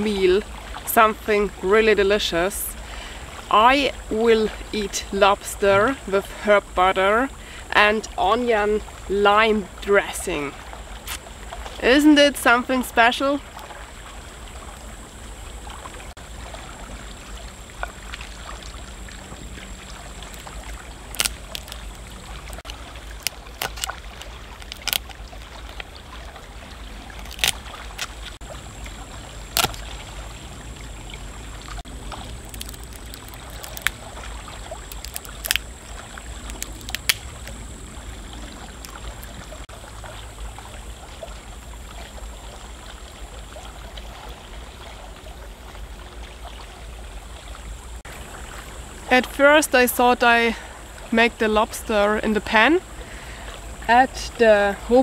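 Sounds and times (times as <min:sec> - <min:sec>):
river running: 0:00.0 - 0:55.0.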